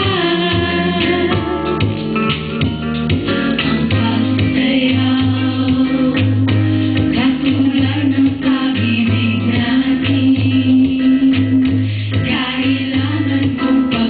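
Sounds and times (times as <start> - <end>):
female vocal group singing: 0.0 - 1.5, 3.8 - 14.0
band backing music: 0.0 - 14.0
held bass notes: 0.0 - 14.0.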